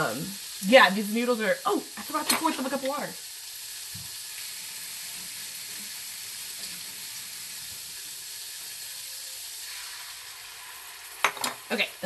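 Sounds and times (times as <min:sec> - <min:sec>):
noodles sizzling in a skillet: 0:00.0 - 0:12.0.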